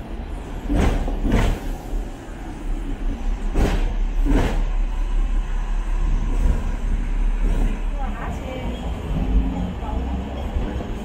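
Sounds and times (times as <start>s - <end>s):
tram rumbling along street: 0.0s - 11.0s.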